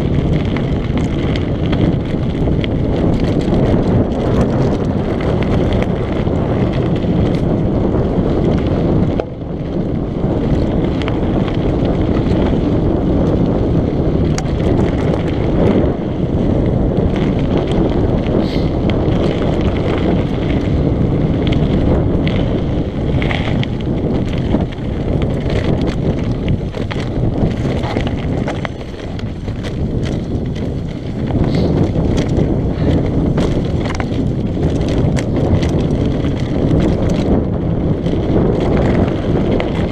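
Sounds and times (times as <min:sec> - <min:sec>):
bike clicking and rattling: 0:00.0 - 0:39.9
bike tyres rumbling over gravel: 0:00.0 - 0:39.9
wind buffeting microphone: 0:00.0 - 0:39.9.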